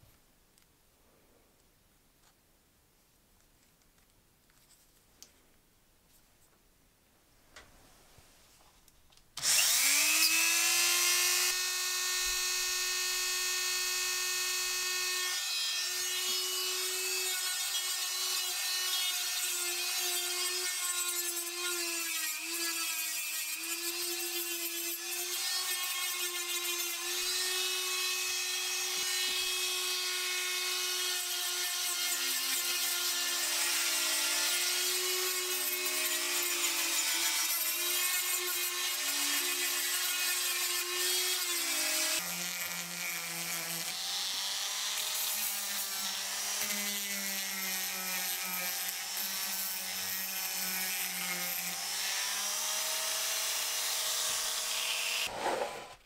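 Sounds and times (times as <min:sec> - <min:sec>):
rotary tool sanding metal: 0:09.4 - 0:55.9.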